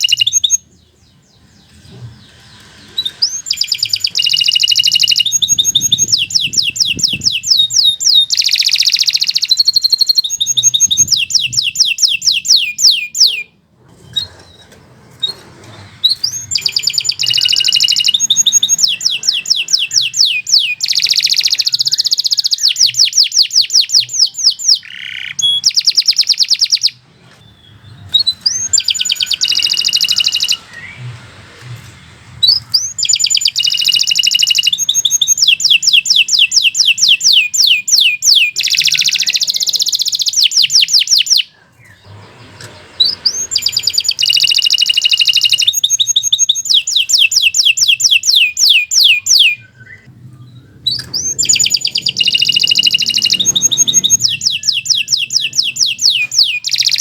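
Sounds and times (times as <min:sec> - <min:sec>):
canary singing trills: 0:00.0 - 0:14.7, 0:16.1 - 0:31.1, 0:32.4 - 0:57.0.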